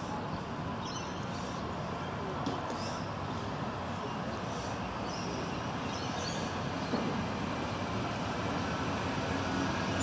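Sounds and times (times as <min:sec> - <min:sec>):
approaching train rumble: 0:00.0 - 0:10.0.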